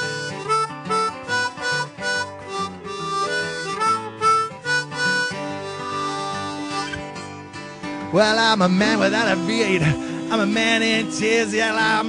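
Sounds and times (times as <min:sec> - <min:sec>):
harmonica solo: 0:00.0 - 0:07.9, 0:08.9 - 0:12.0
guitar backing: 0:00.0 - 0:12.0.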